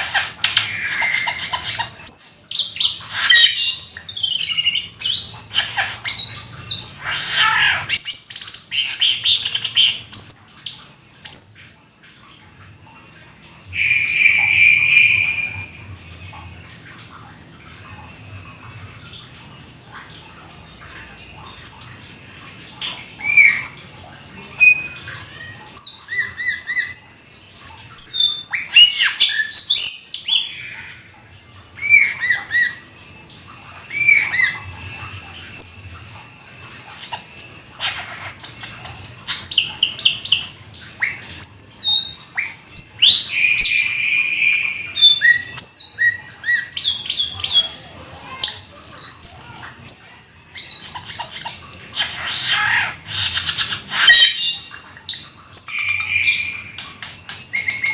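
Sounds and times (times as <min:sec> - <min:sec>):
starling singing: 0:00.0 - 0:11.7, 0:13.7 - 0:16.3, 0:22.8 - 0:31.1, 0:33.7 - 0:57.9.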